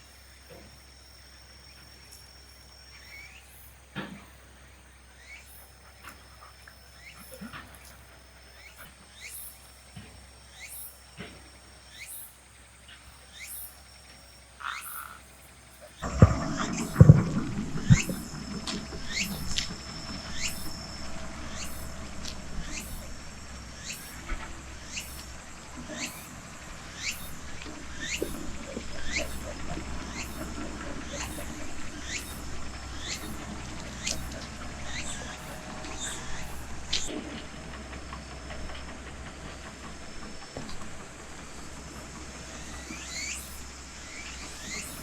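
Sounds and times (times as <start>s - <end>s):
insects trilling: 0.0s - 45.0s
steady low hum: 0.0s - 45.0s.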